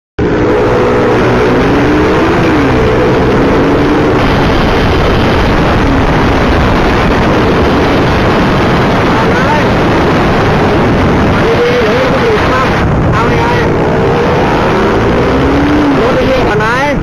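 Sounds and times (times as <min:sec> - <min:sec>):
motorcycle engine running: 0:00.2 - 0:16.6
wind rush on microphone: 0:00.2 - 0:17.0.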